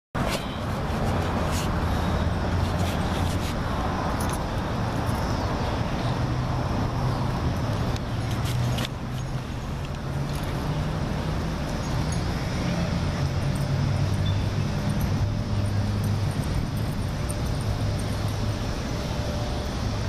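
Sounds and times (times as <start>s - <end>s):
city traffic noise: 0.1s - 20.0s
low engine hum: 0.2s - 20.0s.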